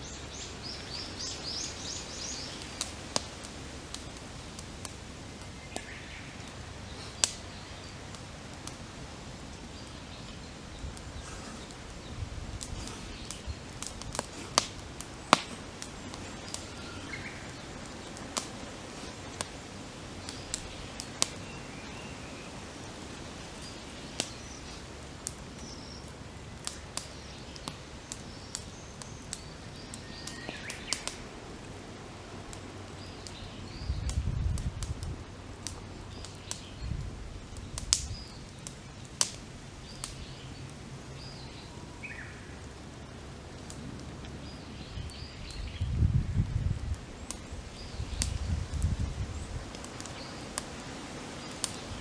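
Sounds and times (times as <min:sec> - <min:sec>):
campfire crackling and popping: 0:00.0 - 0:52.0
small birds chirping: 0:00.0 - 0:52.0.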